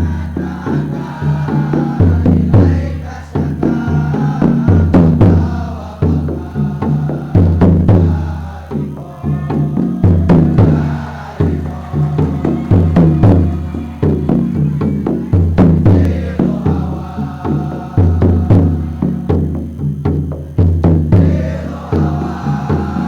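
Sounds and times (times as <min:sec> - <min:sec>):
pitched voices or instruments: 0:00.0 - 0:19.8, 0:21.1 - 0:23.0
choir music: 0:00.0 - 0:19.9, 0:21.1 - 0:23.0
drums and percussion rhythm: 0:00.0 - 0:23.0.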